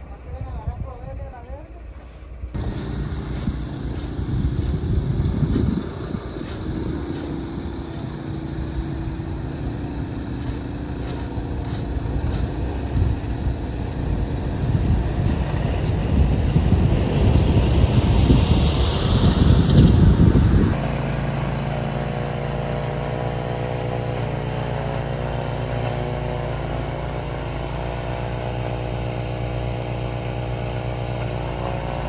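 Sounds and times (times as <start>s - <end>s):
snowblower engine running: 2.4s - 32.0s.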